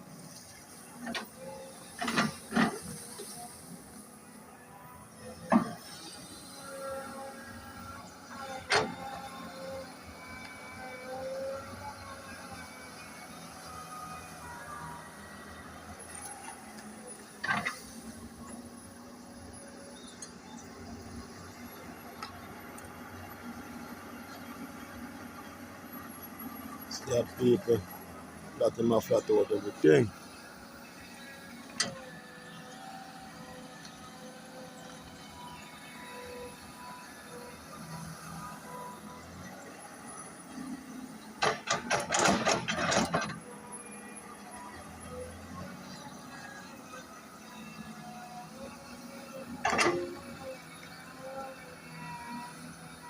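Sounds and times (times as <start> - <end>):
excavator engine hum: 0.0 - 53.0.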